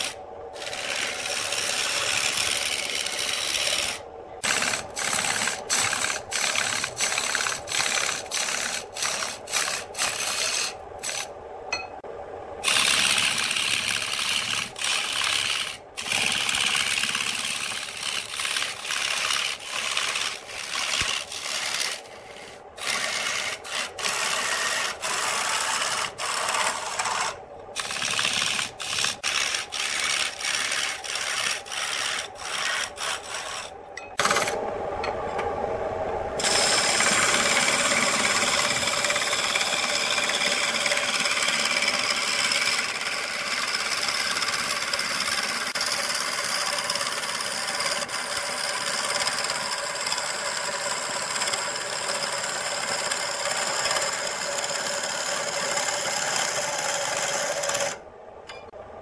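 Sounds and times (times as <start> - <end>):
lathe tool scraping wood: 0.0 - 11.3, 12.6 - 34.6, 36.4 - 58.0.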